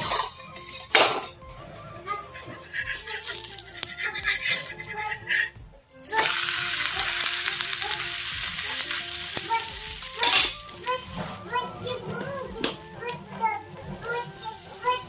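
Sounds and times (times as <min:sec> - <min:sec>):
dosa sizzling in oil: 0:00.0 - 0:15.0
faint background music: 0:00.0 - 0:15.0.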